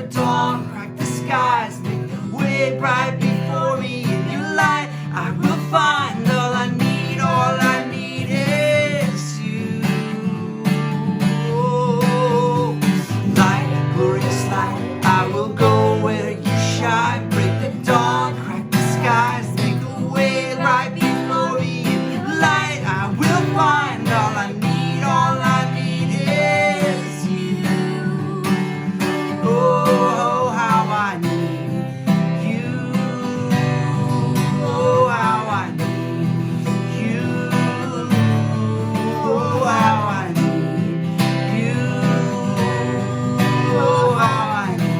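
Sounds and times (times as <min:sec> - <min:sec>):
acoustic guitar strumming: 0:00.0 - 0:44.9
person singing: 0:00.0 - 0:44.9.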